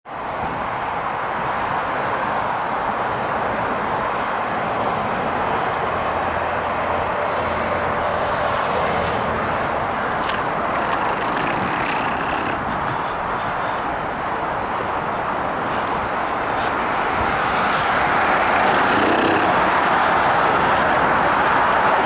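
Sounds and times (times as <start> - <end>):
car road noise: 0.1 - 22.0.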